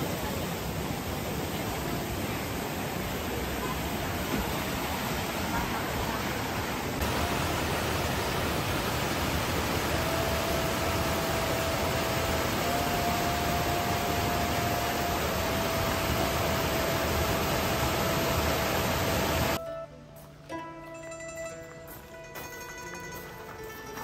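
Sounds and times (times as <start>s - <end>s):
stream water rushing: 0.0s - 19.6s.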